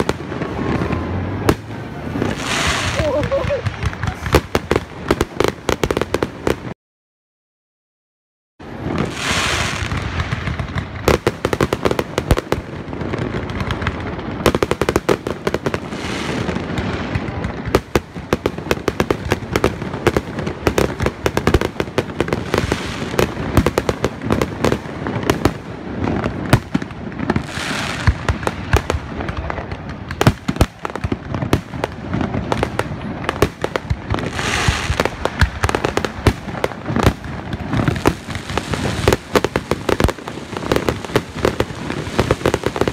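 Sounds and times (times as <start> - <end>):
firework crackling: 0.0 - 6.8, 8.6 - 42.9.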